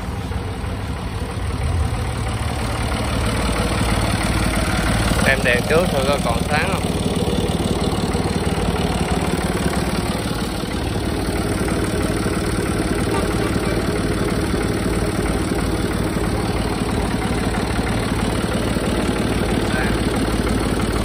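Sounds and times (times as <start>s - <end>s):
diesel tractor engine idling: 0.0s - 21.0s.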